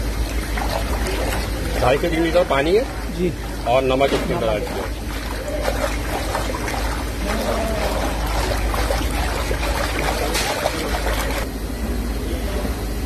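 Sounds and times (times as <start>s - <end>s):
water splashing and trickling: 0.0s - 11.5s
steady low hum: 0.0s - 13.0s.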